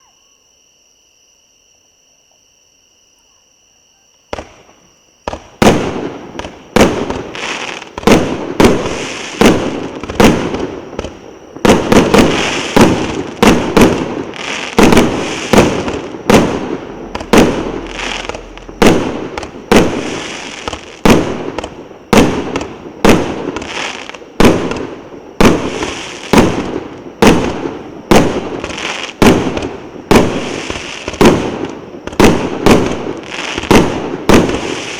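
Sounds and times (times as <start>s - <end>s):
fireworks shots and aerial bursts: 4.4s - 34.9s.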